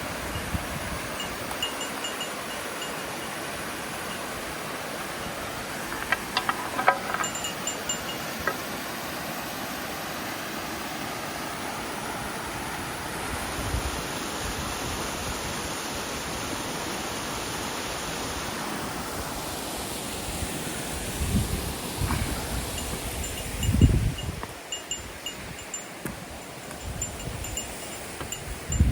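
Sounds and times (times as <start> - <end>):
water rushing: 0.0 - 28.9.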